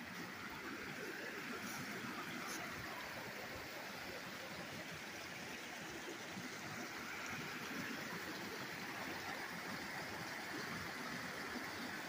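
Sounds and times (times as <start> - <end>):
creek running over rocks: 0.0 - 12.0.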